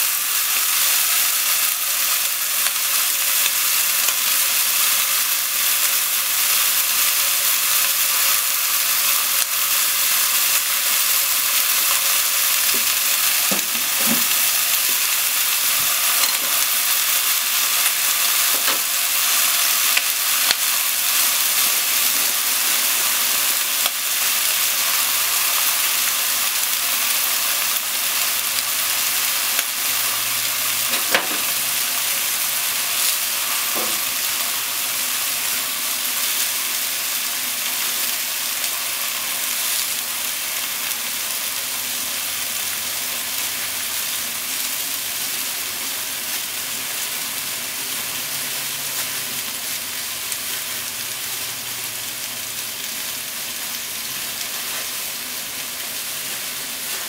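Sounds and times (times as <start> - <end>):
potatoes and onions frying in oil: 0.0 - 57.0.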